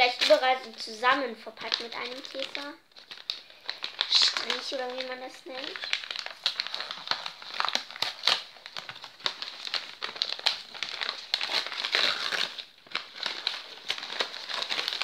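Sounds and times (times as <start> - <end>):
wrapping paper crinkling: 0.0 - 15.0.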